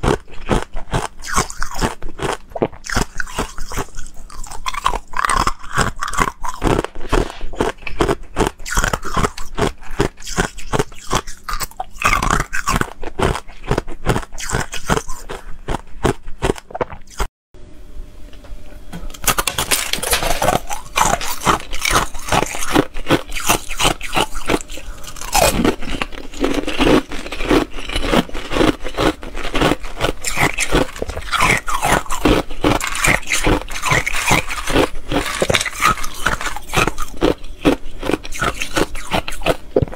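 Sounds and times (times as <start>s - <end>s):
ice cubes crunching between teeth: 0.0s - 17.3s, 19.2s - 39.9s.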